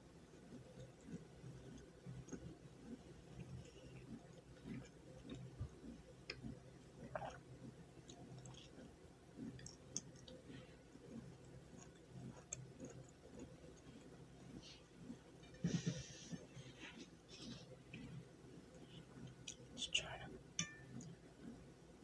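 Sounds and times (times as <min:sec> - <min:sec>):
faint chewing of food: 0:00.0 - 0:22.0.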